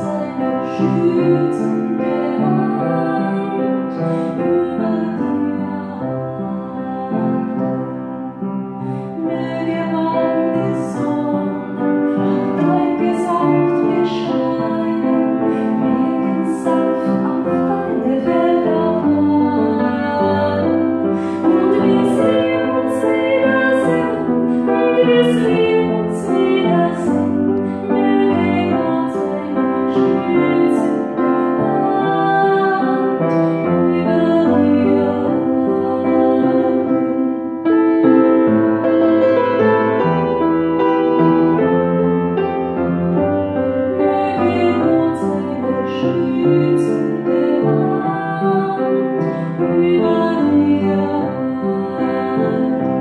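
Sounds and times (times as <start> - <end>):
woman singing a slow song: 0.0 - 8.2, 8.9 - 37.4, 43.9 - 53.0
piano accompaniment: 0.0 - 53.0.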